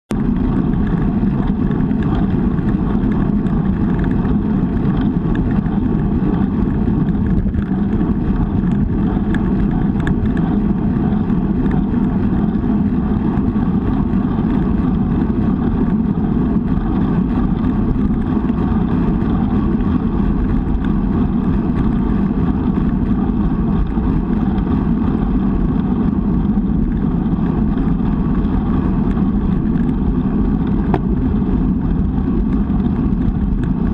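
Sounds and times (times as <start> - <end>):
bicycle road noise: 0.1 - 33.9
wind rumble: 0.1 - 33.9.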